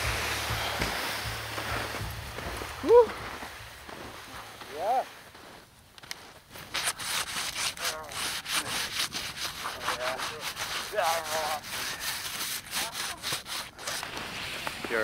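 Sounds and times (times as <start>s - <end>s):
scraping and crunching wet snow: 0.0s - 15.0s.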